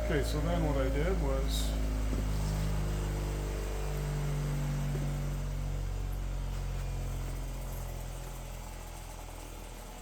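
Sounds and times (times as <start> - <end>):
bench grinder motor humming: 0.0 - 8.4.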